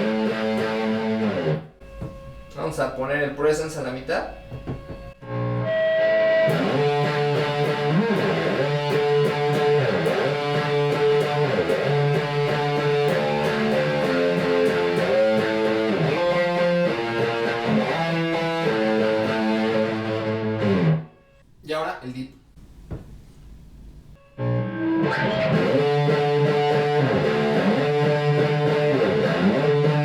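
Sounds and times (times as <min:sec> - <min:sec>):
distorted electric guitar riff: 0:00.0 - 0:03.0, 0:03.6 - 0:21.4, 0:24.2 - 0:30.0.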